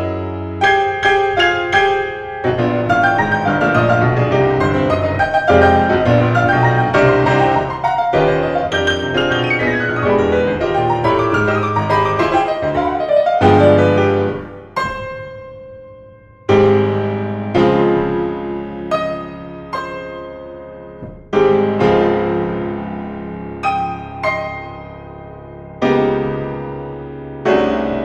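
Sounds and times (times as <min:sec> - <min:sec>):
grand piano playing: 0:00.0 - 0:28.0.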